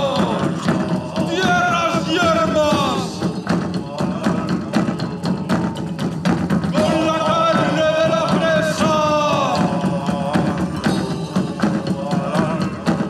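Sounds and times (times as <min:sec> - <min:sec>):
sharp percussion strikes: 0:00.0 - 0:13.0.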